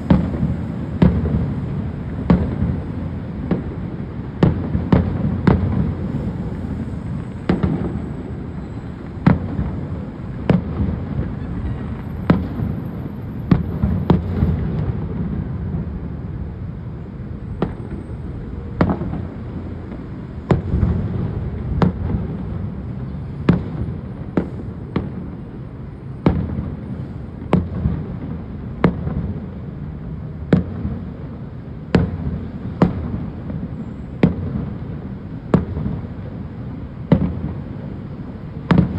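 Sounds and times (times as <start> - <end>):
continuous low rumble: 0.0 - 38.9.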